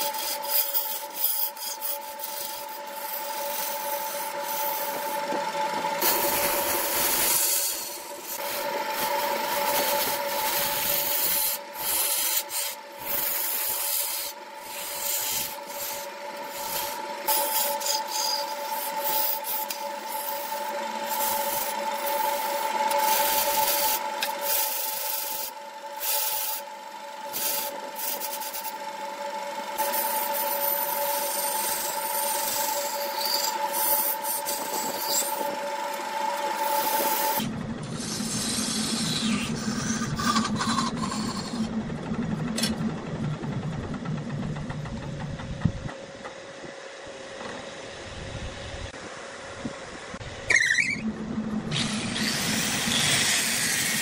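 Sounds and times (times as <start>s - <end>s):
chisel scraping spinning wood: 0.0s - 46.5s, 51.7s - 54.0s
lathe hum: 0.0s - 54.0s.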